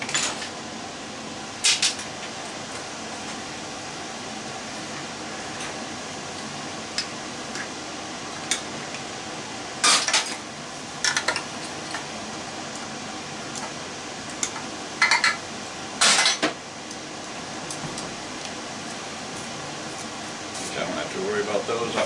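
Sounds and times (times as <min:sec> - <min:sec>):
fan hum: 0:00.0 - 0:22.0.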